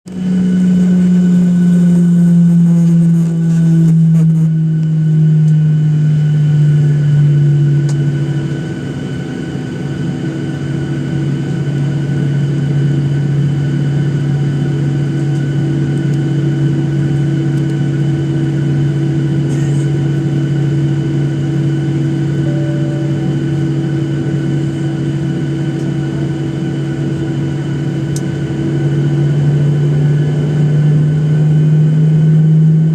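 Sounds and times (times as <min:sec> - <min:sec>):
jet engines idling in cabin: 0:00.1 - 0:32.9.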